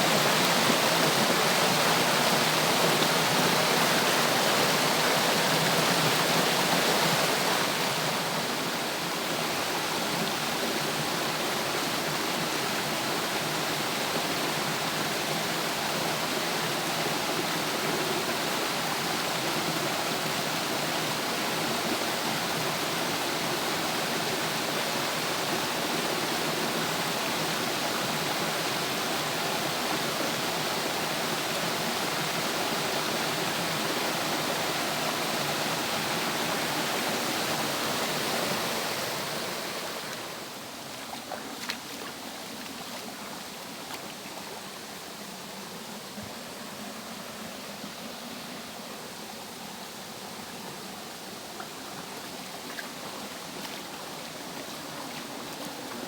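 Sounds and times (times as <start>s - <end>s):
water rushing over cascade: 0.0s - 56.0s.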